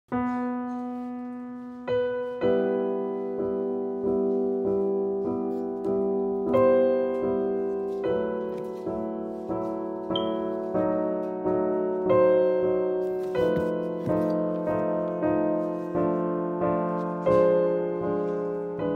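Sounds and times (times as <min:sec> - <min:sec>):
slow piano music: 0:00.1 - 0:18.9.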